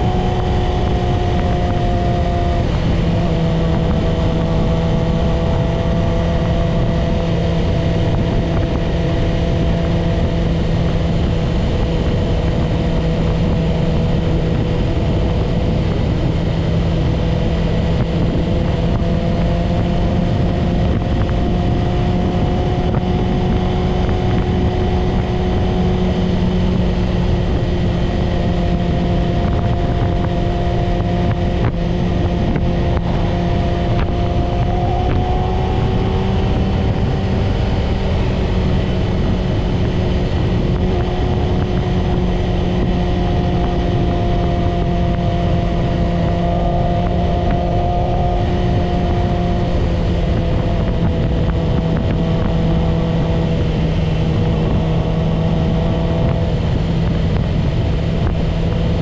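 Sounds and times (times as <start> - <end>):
motorcycle engine cruising: 0.0 - 59.0
wind rushing: 0.0 - 59.0.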